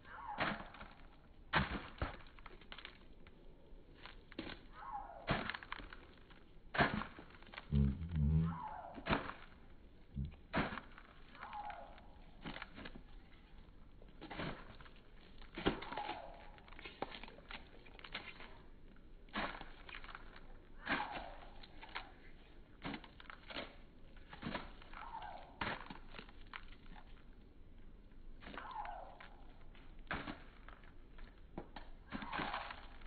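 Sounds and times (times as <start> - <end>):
hens pecking and crunching cereal: 0.4 - 33.0.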